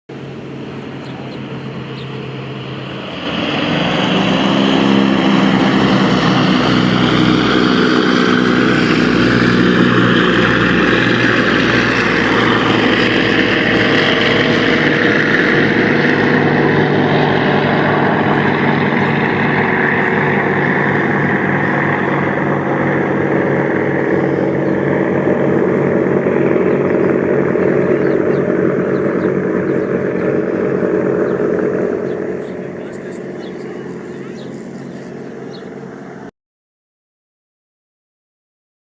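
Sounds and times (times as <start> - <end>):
propeller engines droning: 0.1 - 36.3.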